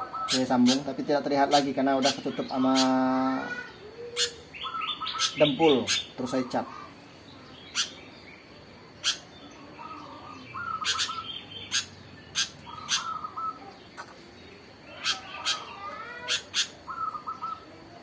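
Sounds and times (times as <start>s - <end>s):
bird chirps: 0.0s - 18.0s.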